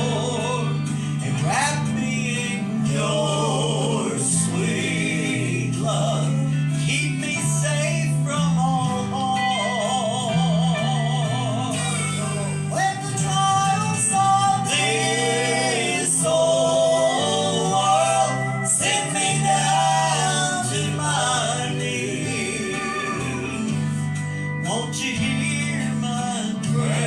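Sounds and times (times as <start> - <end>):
gospel singing with accompaniment: 0.0 - 27.0.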